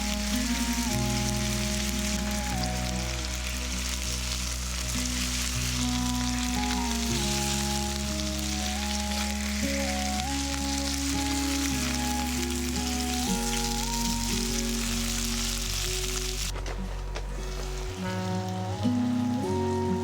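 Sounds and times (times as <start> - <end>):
meat sizzling in a frying pan: 0.0 - 16.5
slow background music: 0.0 - 20.0.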